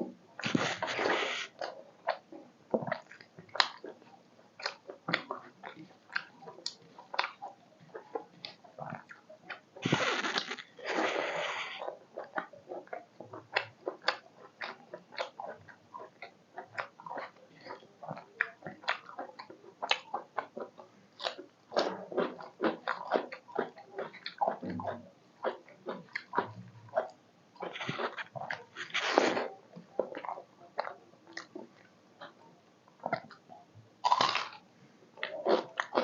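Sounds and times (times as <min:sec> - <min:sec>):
mouth chewing food: 0:00.0 - 0:36.0.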